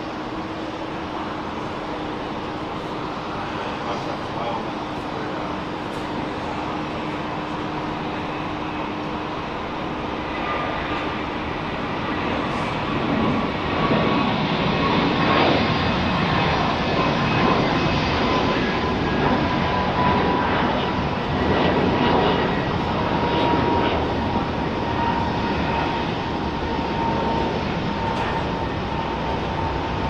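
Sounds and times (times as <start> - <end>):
airliner engine rush and whine: 0.0 - 30.0.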